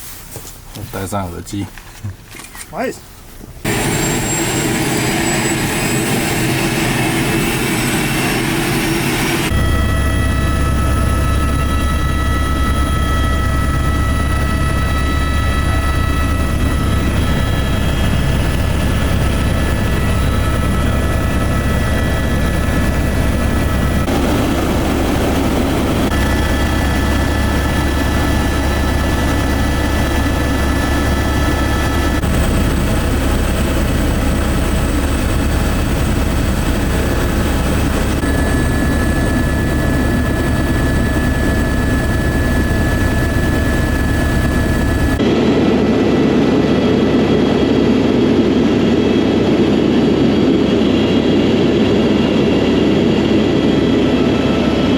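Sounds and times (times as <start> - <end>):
helicopter engine and rotor drone: 3.6 - 54.9.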